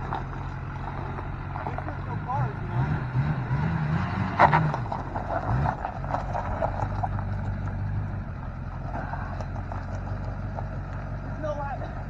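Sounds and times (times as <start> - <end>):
diesel truck engine: 0.0 - 12.0.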